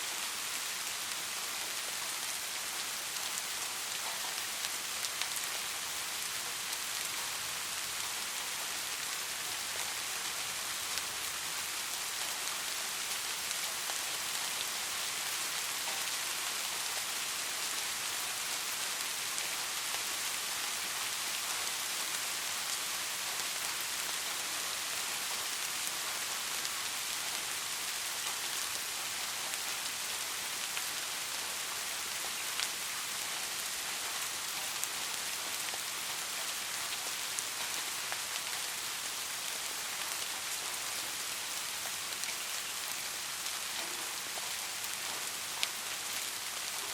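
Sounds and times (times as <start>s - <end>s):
rain falling on a street: 0.0s - 46.9s.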